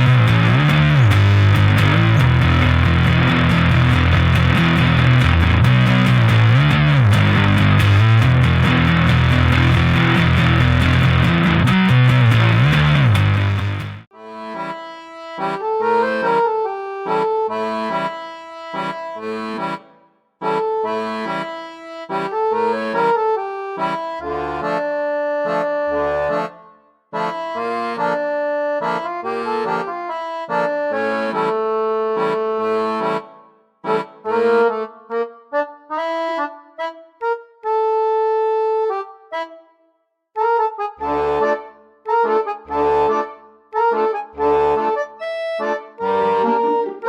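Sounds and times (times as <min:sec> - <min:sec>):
reedy instrumental melody: 0:00.0 - 0:47.0.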